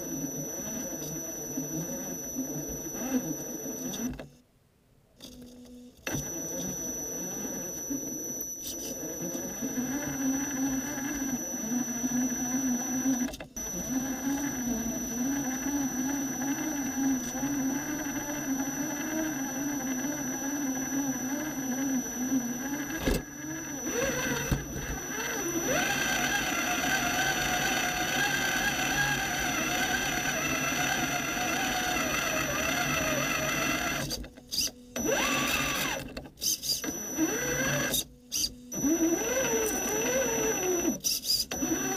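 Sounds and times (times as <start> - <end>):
toy car electric motor whining: 0.0 - 4.2, 6.1 - 41.9.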